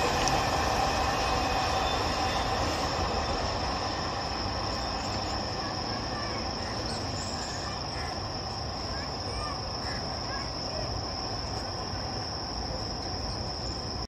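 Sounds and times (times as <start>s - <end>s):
freight train rumbling on rails: 0.0s - 14.0s
insects chirring: 0.0s - 14.0s.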